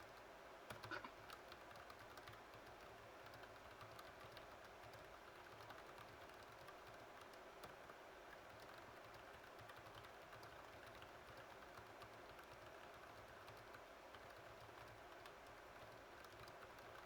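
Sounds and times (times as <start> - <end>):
typing on computer keyboard: 0.2 - 17.0.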